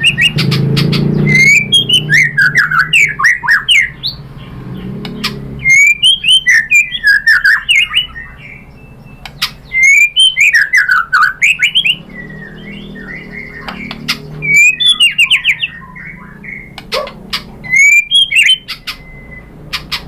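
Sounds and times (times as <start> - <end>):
bird singing whistled phrases: 0.0 - 4.2, 5.2 - 19.6.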